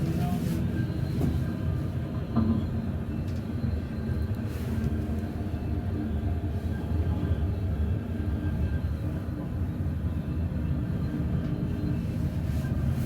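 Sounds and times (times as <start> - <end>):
train rumbling from inside carriage: 0.0 - 13.0.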